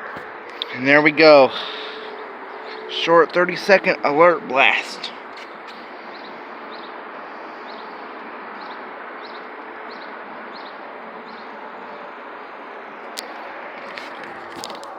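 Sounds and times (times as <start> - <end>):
outdoor background noise: 0.0 - 14.9.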